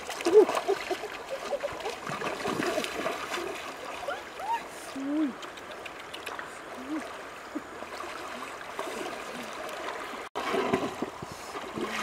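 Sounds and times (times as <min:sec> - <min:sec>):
shallow river running: 0:00.0 - 0:12.0.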